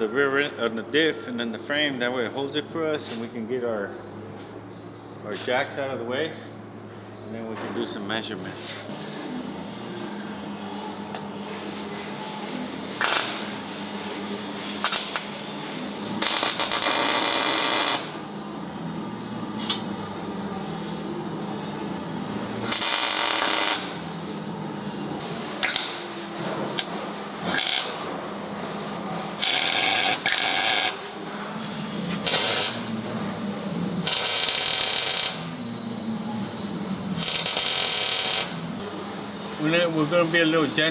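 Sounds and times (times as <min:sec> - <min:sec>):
low shop hum: 0:00.0 - 0:40.9.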